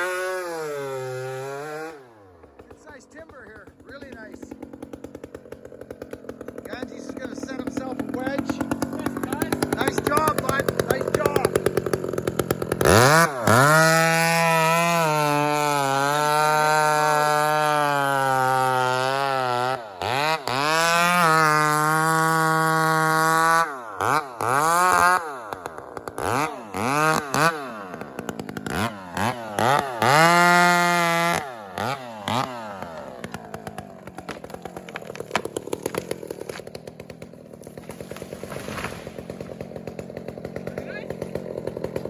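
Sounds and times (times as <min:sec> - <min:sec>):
chainsaw revving: 0:00.0 - 0:42.0.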